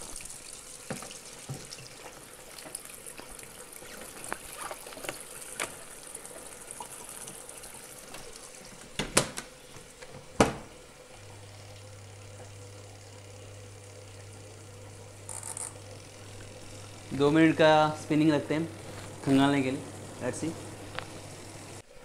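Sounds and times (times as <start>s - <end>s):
water dripping: 0.0s - 9.0s, 11.2s - 21.8s
washing machine motor humming: 0.0s - 22.0s.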